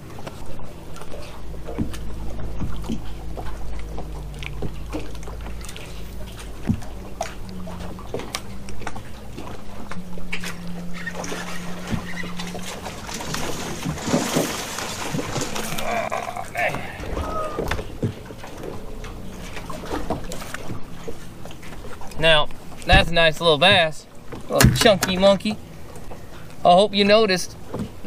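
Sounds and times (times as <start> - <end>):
electric trolling motor humming: 0.0 - 28.0.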